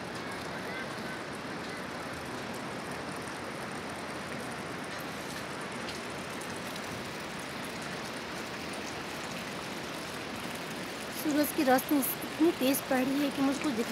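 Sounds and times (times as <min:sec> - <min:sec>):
running water rushing: 0:00.0 - 0:13.9.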